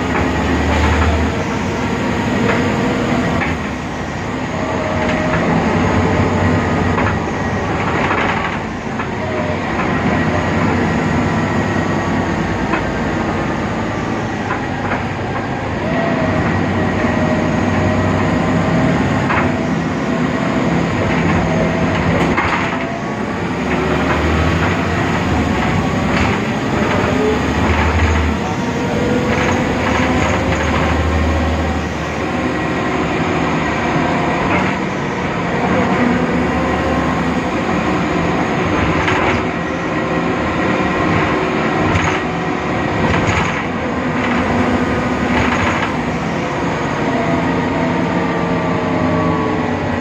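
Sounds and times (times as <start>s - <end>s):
bus diesel engine drone: 0.0s - 50.0s.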